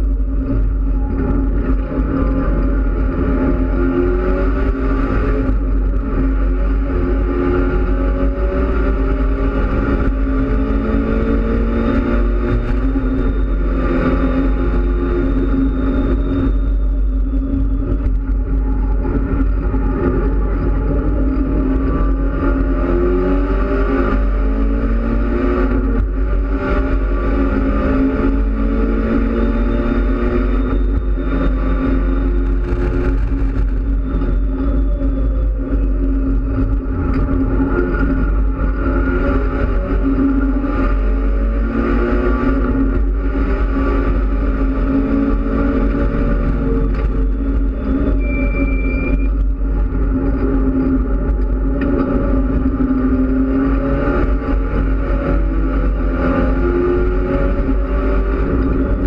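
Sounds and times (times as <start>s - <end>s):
race car engine revving: 0.0s - 59.0s
road noise rumble: 0.0s - 59.0s.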